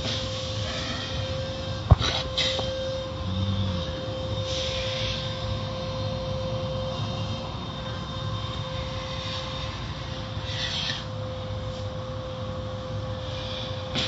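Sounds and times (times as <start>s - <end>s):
car wash machine drone: 0.0s - 14.0s.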